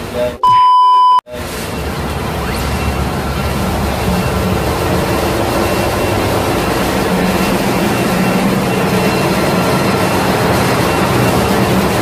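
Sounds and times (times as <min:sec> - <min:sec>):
engine-room machinery din: 0:01.3 - 0:12.0.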